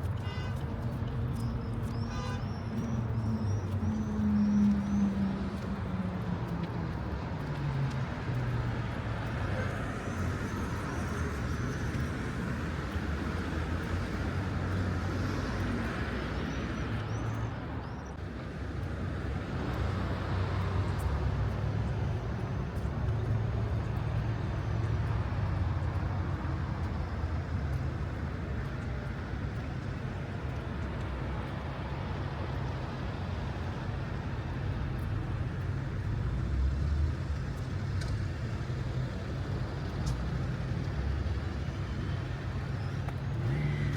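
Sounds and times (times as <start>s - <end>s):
cars and buses passing: 0.0s - 43.9s.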